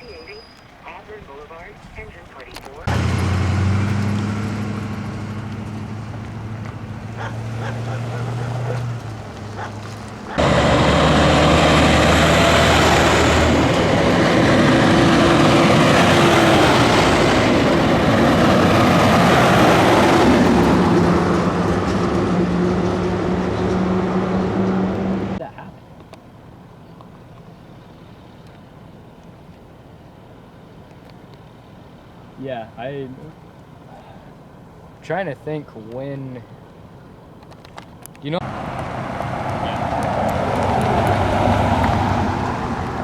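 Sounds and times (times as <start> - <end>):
heavy vehicle engines running: 0.0 - 43.0
road noise rushing: 0.0 - 43.0.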